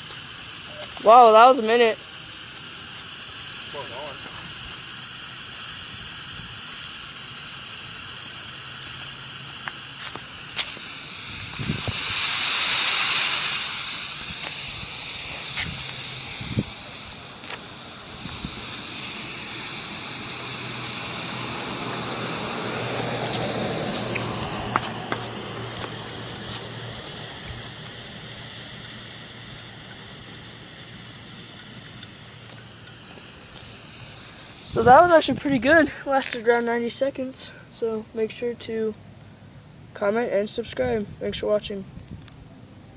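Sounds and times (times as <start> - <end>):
smoke canister hissing: 0.0 - 41.0.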